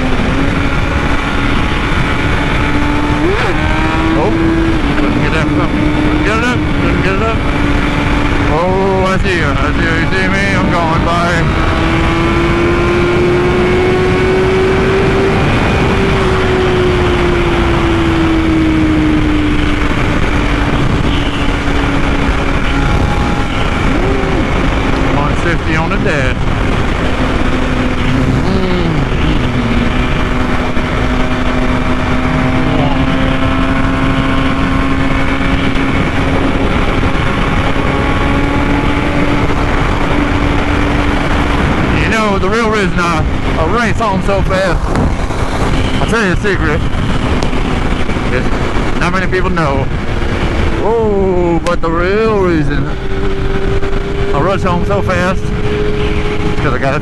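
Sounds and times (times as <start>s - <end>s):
motorcycle engine cruising: 0.0s - 57.0s
wind roar on microphone: 0.0s - 57.0s.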